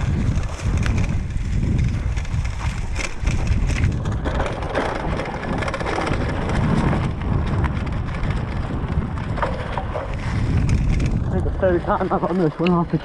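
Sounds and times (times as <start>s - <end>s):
bike tyres crackling over dry leaves: 0.0s - 13.0s
wind buffeting microphone: 0.0s - 13.0s.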